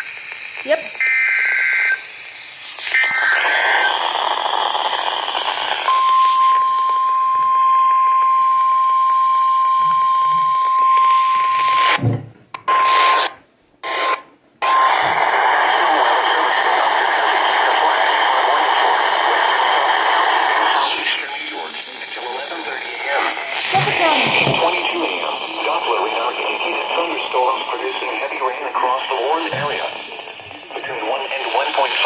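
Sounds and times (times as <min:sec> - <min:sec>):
radio static: 0:00.0 - 0:07.5, 0:09.2 - 0:32.0.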